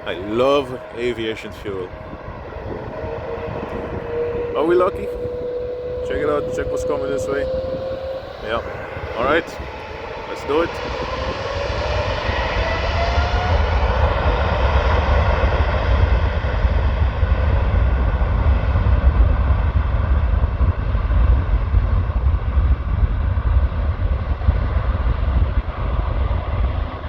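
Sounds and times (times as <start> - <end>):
jet engine whine: 0.0 - 27.0
jet engines roaring: 0.0 - 27.0.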